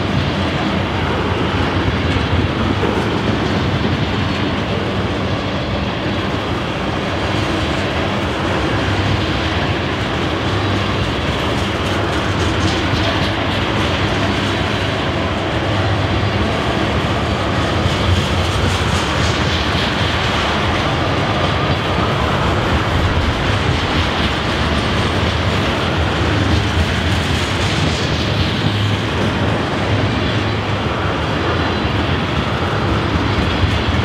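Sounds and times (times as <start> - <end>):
steel wheels rumbling on rail: 0.0 - 34.0.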